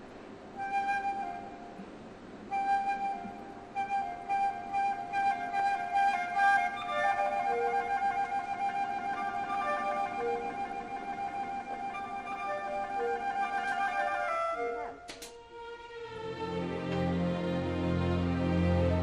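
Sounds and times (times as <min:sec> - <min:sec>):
flute melody: 0:00.0 - 0:19.0
soft instrumental accompaniment: 0:00.0 - 0:19.0.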